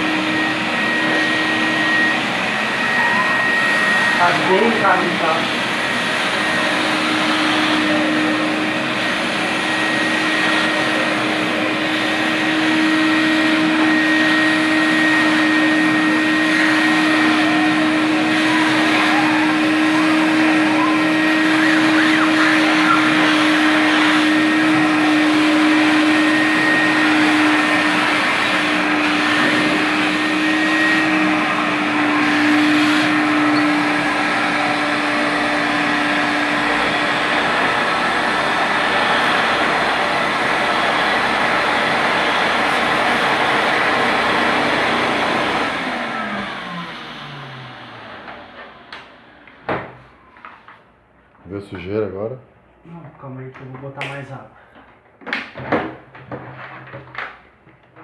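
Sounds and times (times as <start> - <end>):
vacuum cleaner motor hum: 0.0 - 50.4.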